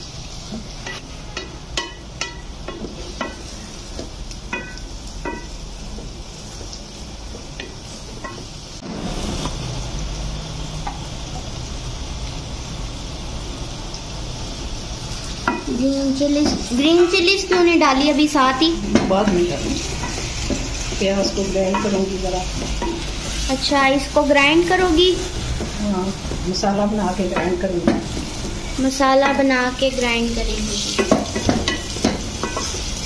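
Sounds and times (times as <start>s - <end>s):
onions sizzling in a pot: 0.0s - 33.0s.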